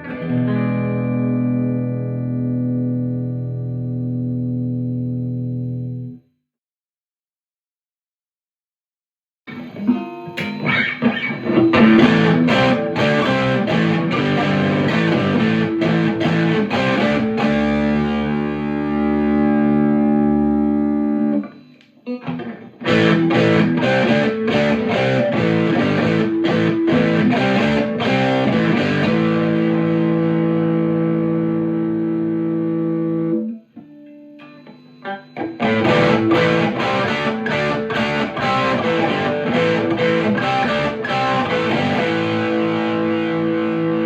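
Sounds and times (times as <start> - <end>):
electric guitar chords: 0.0 - 6.2, 9.5 - 44.0.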